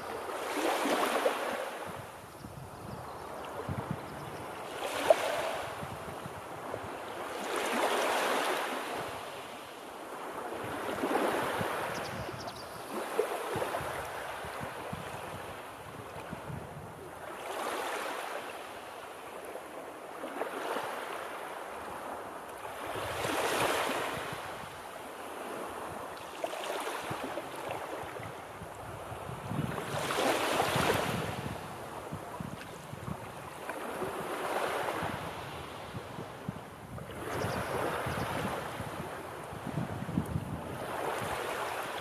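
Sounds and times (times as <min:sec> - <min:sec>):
sea waves washing ashore: 0:00.0 - 0:02.4, 0:03.3 - 0:12.2, 0:12.8 - 0:42.0.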